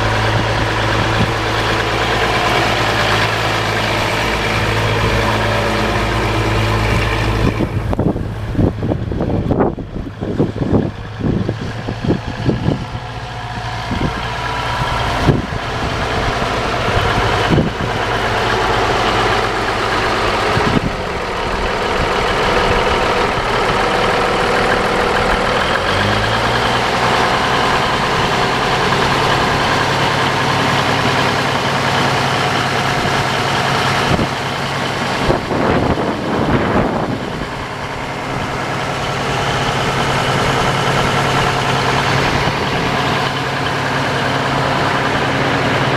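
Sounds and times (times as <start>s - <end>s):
tractor diesel engine idling: 0.0s - 45.9s.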